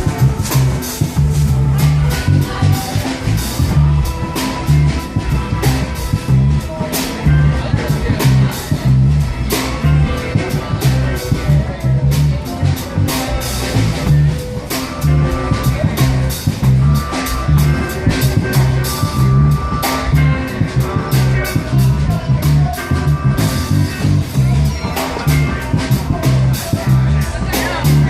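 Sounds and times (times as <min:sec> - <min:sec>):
drum and cymbal hits: 0:00.0 - 0:28.0
live band playing: 0:00.0 - 0:28.0.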